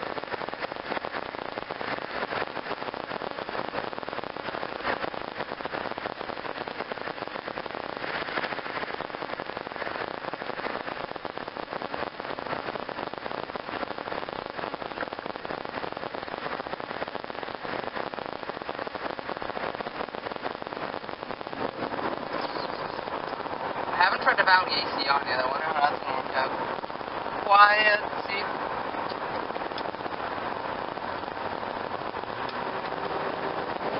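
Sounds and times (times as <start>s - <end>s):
crackling hiss inside vehicle cabin: 0.0s - 33.9s.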